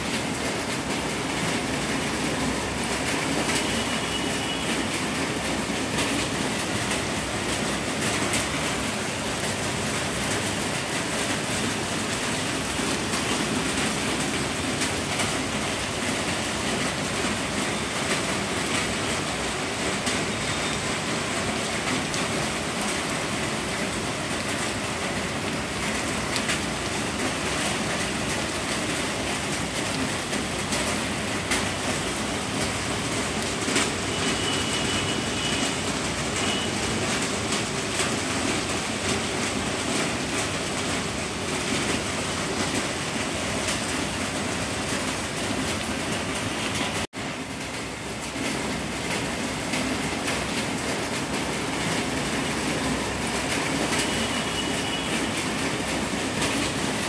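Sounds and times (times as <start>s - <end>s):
heavy rain falling: 0.0s - 57.0s
rain drop ticks: 0.1s - 57.0s.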